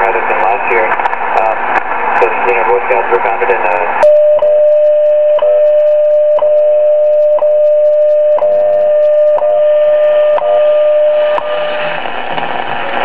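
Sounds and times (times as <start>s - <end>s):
radio hiss and static: 0.0s - 4.0s, 4.8s - 13.0s
steady radio tone: 0.0s - 13.0s.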